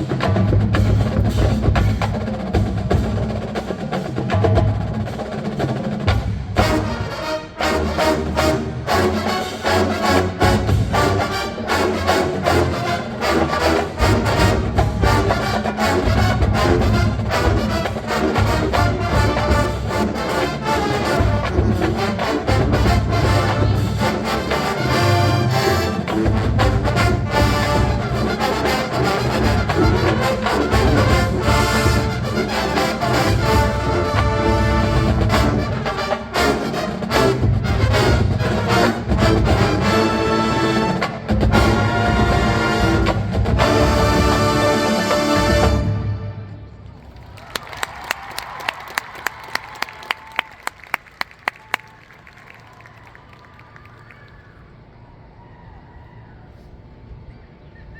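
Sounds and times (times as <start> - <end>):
marching band playing: 0.0 - 52.9.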